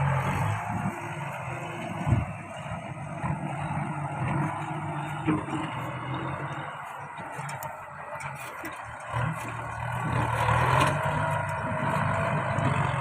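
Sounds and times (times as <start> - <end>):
tractor engine working: 0.0 - 13.0.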